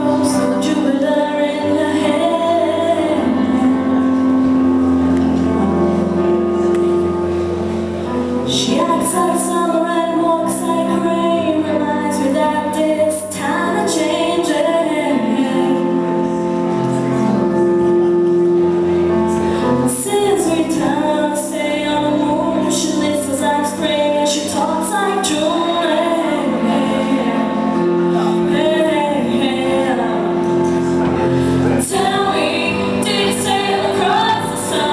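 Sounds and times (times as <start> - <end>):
women singing pop ballad: 0.0 - 4.8, 8.4 - 16.5, 19.4 - 34.9
acoustic instrumental accompaniment: 0.0 - 34.9.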